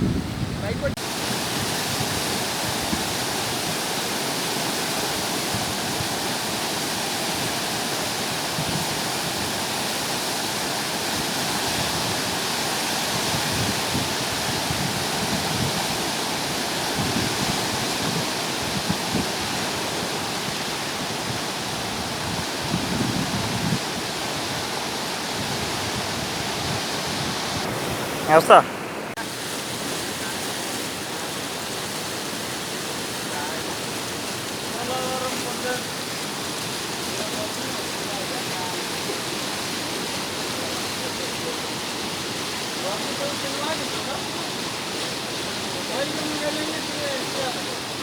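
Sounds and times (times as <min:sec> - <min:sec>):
flooded river rushing: 0:00.0 - 0:48.0.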